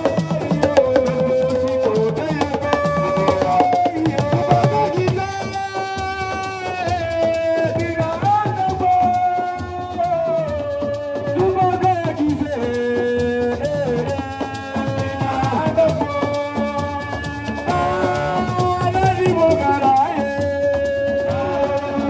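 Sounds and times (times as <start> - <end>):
hand drums playing: 0.0 - 22.0.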